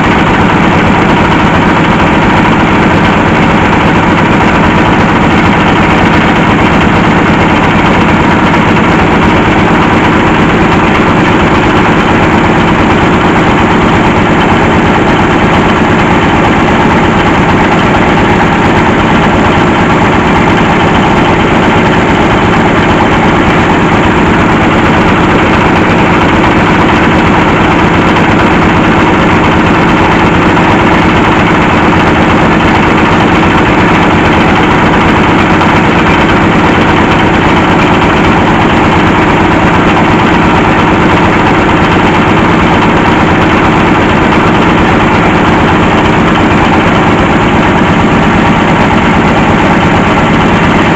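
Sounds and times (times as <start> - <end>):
drilling rig engine running: 0.0 - 50.9.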